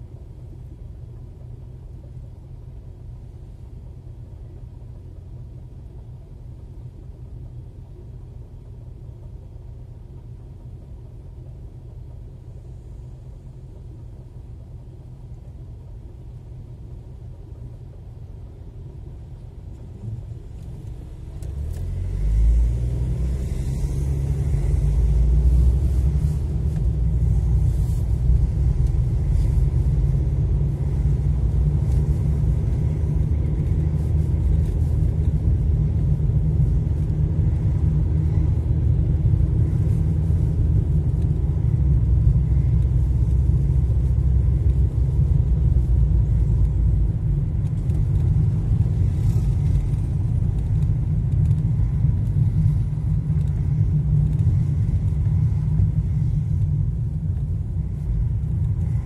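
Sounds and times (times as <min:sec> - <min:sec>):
car engine rumble: 0:00.0 - 0:59.0
tyre road noise: 0:00.0 - 0:59.0.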